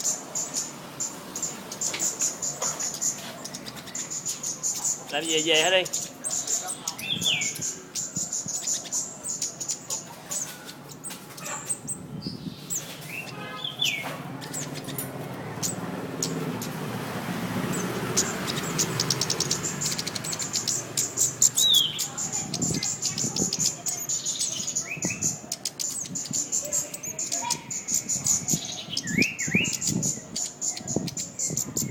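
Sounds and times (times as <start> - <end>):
bird singing sharp chirps: 0.0 - 31.9.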